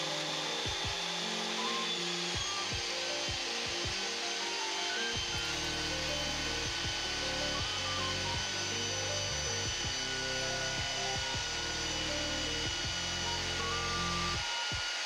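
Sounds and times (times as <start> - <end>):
pipe threading machine running: 0.0 - 15.0.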